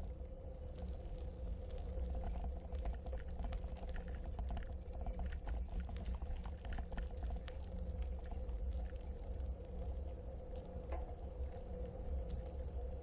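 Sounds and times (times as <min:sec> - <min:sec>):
faint hum: 0:00.0 - 0:13.0
wind rumble on microphone: 0:00.0 - 0:13.0.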